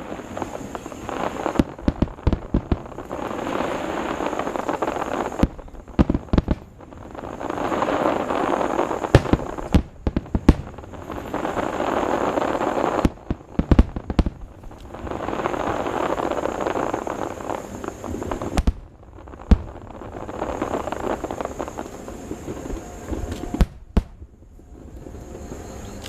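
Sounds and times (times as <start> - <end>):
firework bangs: 0.0 - 26.0.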